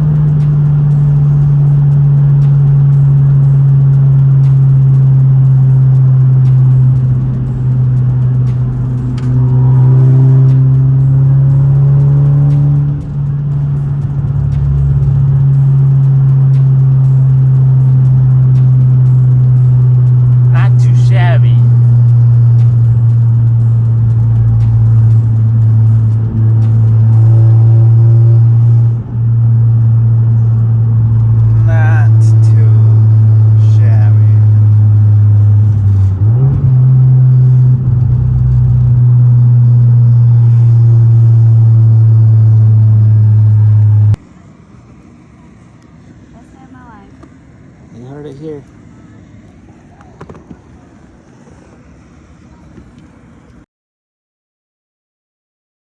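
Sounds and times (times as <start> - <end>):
car engine droning: 0.0 - 53.7.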